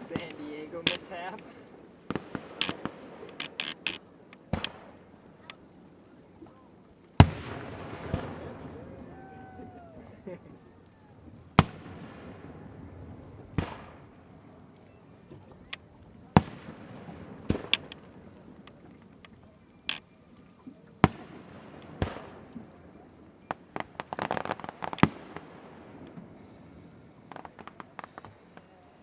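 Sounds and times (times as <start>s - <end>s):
fireworks booming: 0.0s - 5.8s, 7.2s - 20.1s, 20.7s - 29.0s
fireworks crackling: 0.0s - 29.0s.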